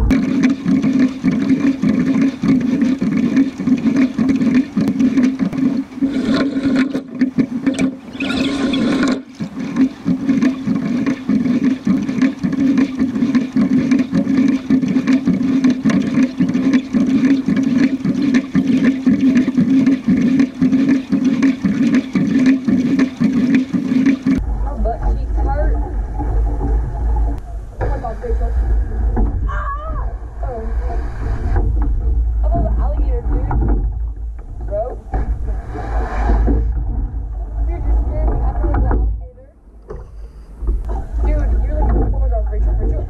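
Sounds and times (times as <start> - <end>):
water splashing along boat hull: 0.0 - 43.0.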